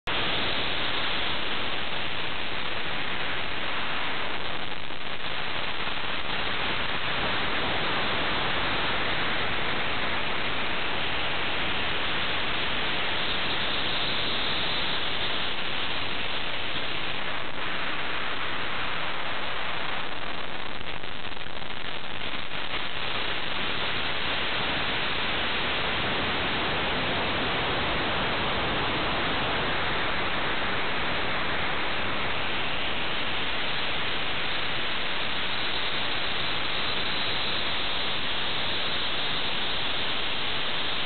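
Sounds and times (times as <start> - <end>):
static-like hiss: 0.0 - 41.0.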